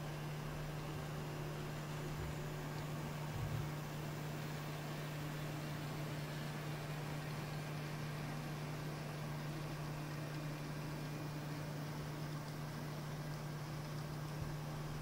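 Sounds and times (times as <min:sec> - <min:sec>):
model train hum and hiss: 0:00.0 - 0:15.0.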